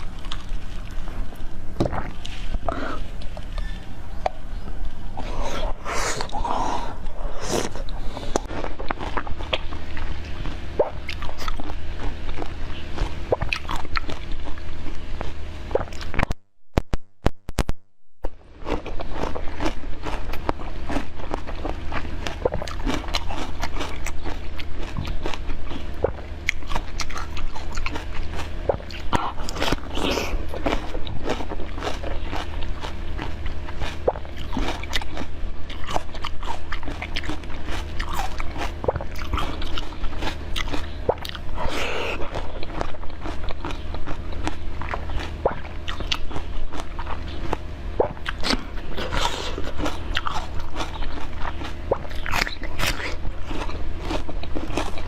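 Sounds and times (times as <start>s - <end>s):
person chewing crunchy food: 0.0s - 16.4s, 18.2s - 55.0s
low steady hum: 0.0s - 55.0s.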